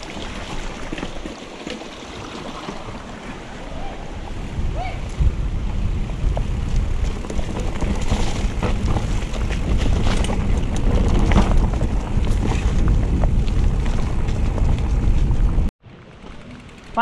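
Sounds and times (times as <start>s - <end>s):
bike clicks and rattles: 0.0s - 2.9s, 5.0s - 17.0s
bike tyres on dirt: 0.0s - 17.0s
wind rumbling on microphone: 2.1s - 15.7s.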